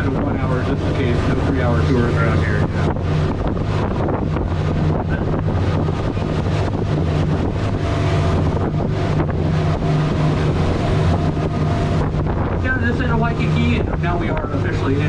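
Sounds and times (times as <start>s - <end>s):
boat engine droning: 0.0s - 15.0s
wind buffeting microphone: 0.0s - 15.0s.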